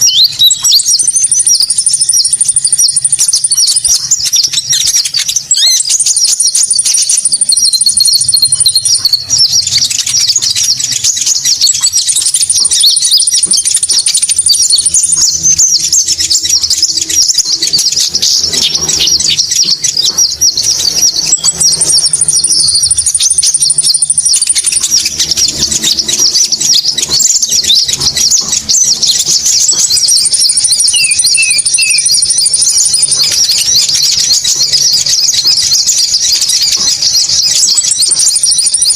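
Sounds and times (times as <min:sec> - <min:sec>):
high even bird trill: 0:00.0 - 0:38.9
small birds chattering: 0:00.0 - 0:38.9.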